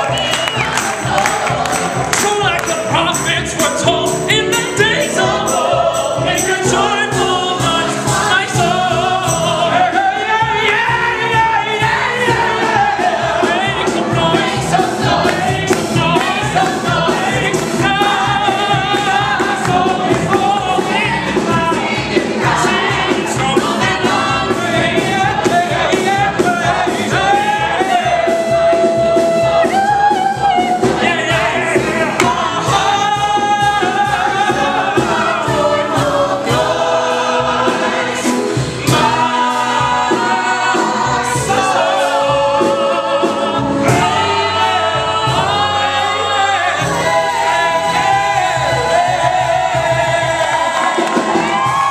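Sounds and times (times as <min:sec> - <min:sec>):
piano bass and drums: 0:00.0 - 0:51.9
vocal ensemble singing: 0:00.0 - 0:51.9.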